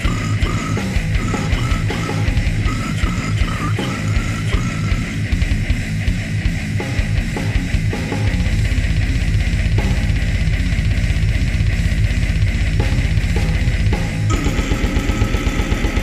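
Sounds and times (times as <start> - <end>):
distorted electric guitars: 0.0 - 16.0
drum kit: 0.0 - 16.0.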